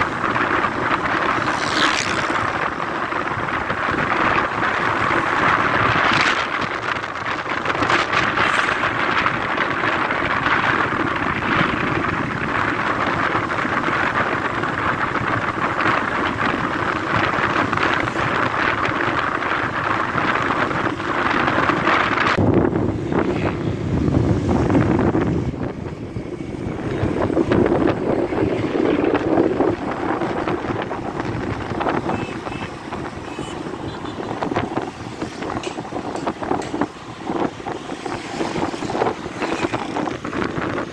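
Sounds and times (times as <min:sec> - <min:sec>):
vehicle road and engine noise: 0:00.0 - 0:40.9
wind rushing over microphone: 0:00.0 - 0:40.9.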